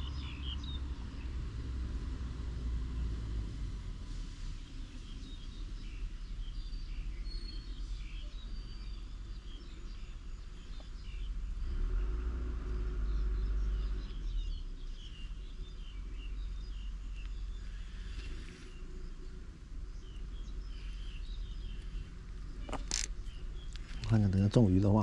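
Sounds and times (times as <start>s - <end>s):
small birds chirping: 0.0s - 3.7s, 4.5s - 25.0s
low rumble: 0.0s - 25.0s.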